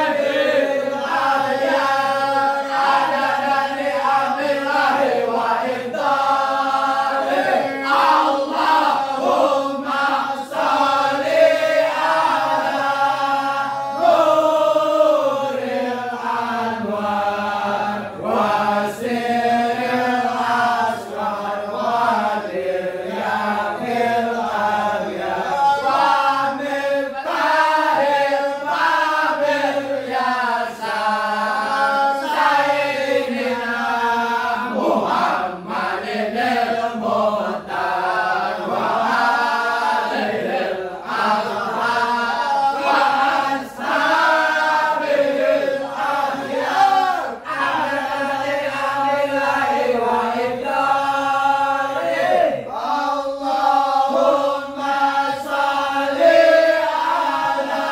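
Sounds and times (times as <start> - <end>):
congregation chanting in unison: 0.0 - 57.9.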